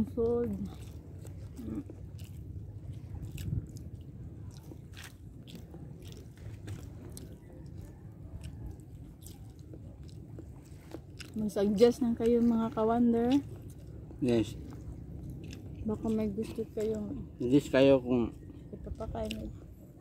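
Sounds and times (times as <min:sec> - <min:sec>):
people chewing food: 0:00.0 - 0:20.0
steady low rumble: 0:00.0 - 0:20.0.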